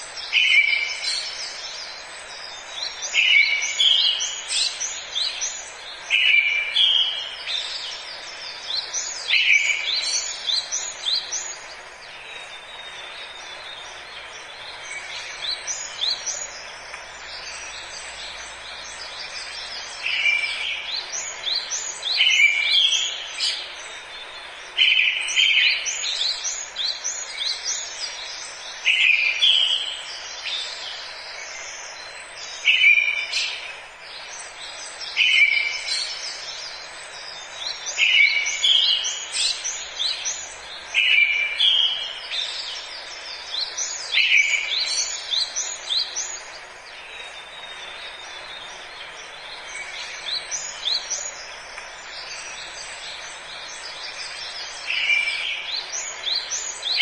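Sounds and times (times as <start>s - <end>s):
background hiss: 0.0s - 57.0s
songbird singing: 0.0s - 57.0s.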